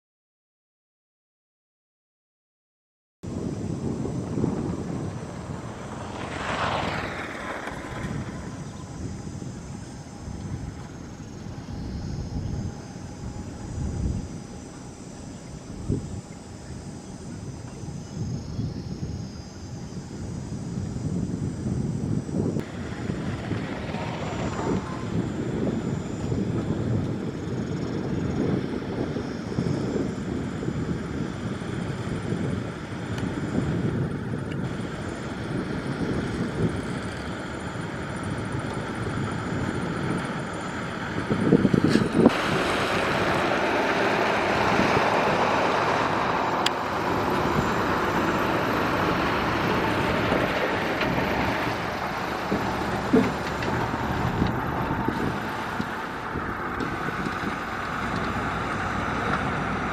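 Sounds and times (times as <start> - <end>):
diesel engine rumbling: 3.3 - 59.9.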